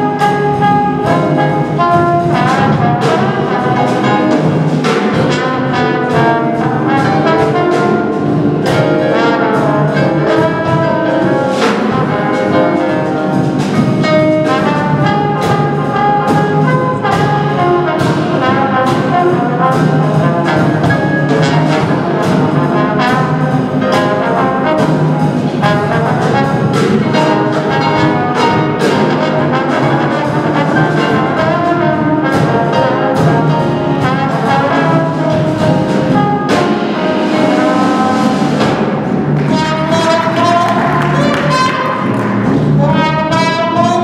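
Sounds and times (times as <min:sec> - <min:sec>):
jazz combo playing: 0:00.0 - 0:44.0
drum and cymbal strokes: 0:00.1 - 0:44.0.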